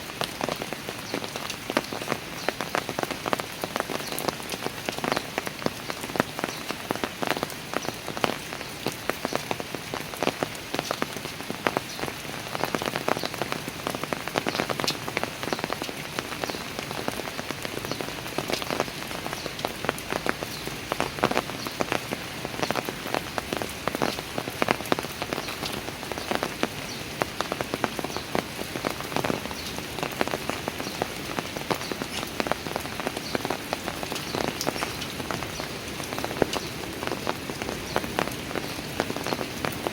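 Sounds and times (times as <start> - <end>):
rain drops spattering on hard surfaces: 0.0 - 39.9.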